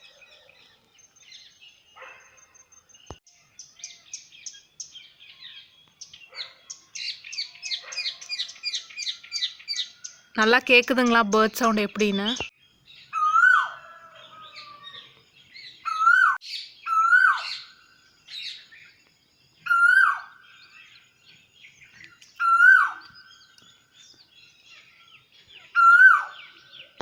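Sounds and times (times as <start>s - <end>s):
high bird chirps: 1.0s - 19.0s, 19.6s - 24.9s.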